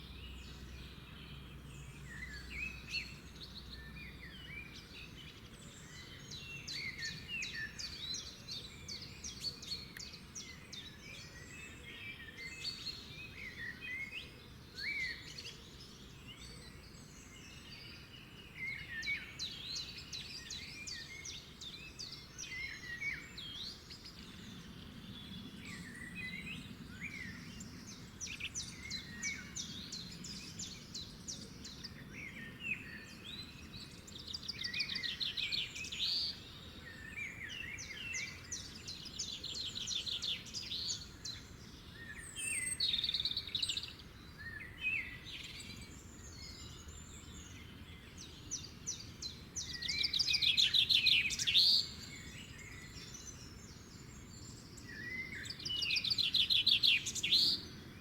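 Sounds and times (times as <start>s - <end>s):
faint low background noise: 0.0s - 58.0s
wild birds singing and trilling: 0.0s - 58.0s.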